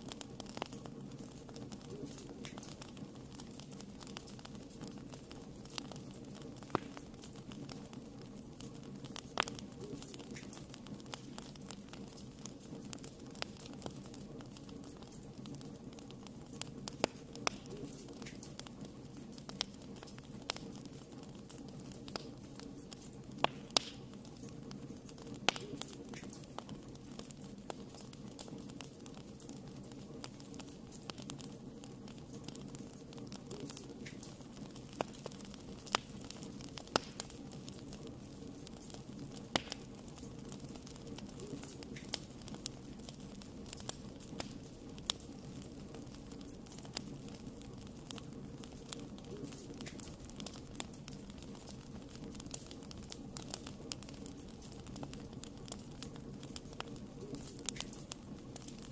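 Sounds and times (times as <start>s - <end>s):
fire crackles and pops: 0.0s - 58.9s
fire flames rumbling: 0.0s - 58.9s.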